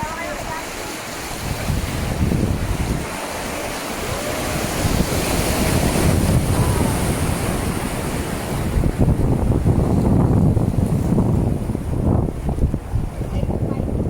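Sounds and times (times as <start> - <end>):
river water rushing: 0.0 - 14.0
wind buffeting microphone: 0.0 - 14.0.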